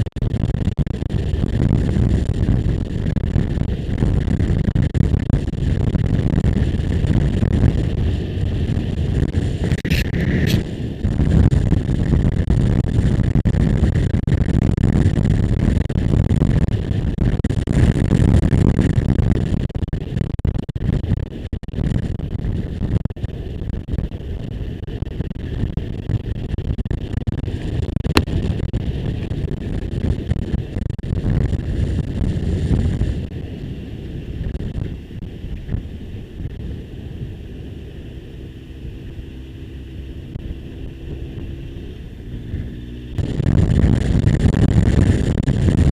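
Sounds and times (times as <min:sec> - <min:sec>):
motorcycle engine running: 0:00.0 - 0:19.7, 0:27.4 - 0:30.8, 0:31.4 - 0:45.9
wind buffeting microphone: 0:00.0 - 0:45.9.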